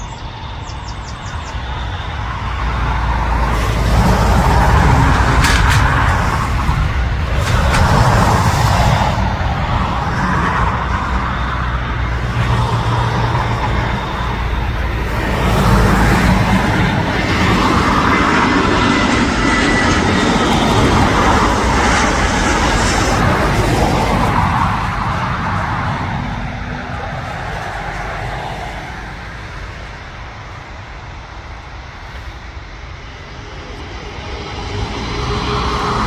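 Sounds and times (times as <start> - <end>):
jet engine roar: 0.0 - 36.0.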